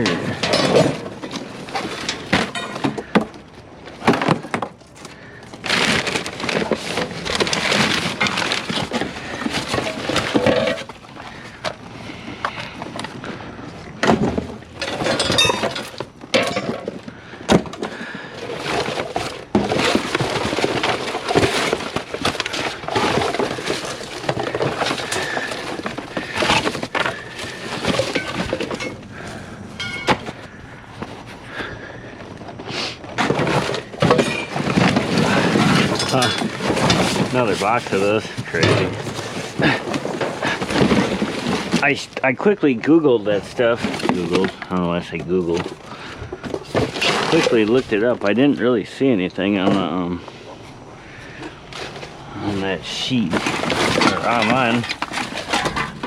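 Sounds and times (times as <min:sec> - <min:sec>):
debris clattering in metal dumpster: 0:00.0 - 0:13.2, 0:14.0 - 0:31.9, 0:33.0 - 0:50.2, 0:51.7 - 0:56.0.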